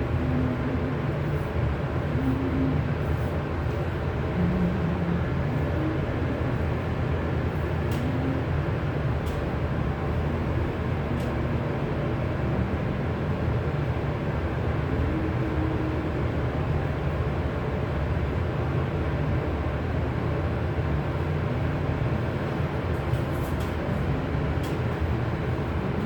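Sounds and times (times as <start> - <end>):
steady low rumbling: 0.0 - 18.4, 21.8 - 26.0.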